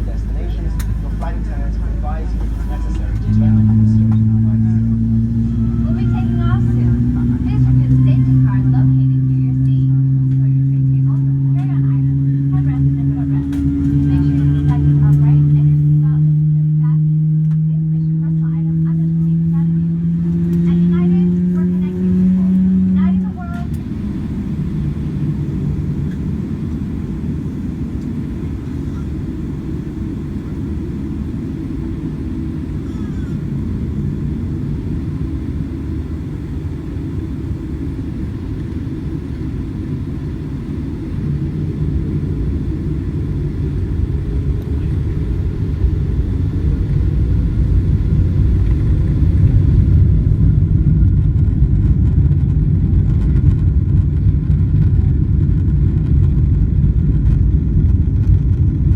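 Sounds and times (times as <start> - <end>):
airplane cabin engine rumble: 0.0 - 58.9
faint rising whine: 0.0 - 58.9.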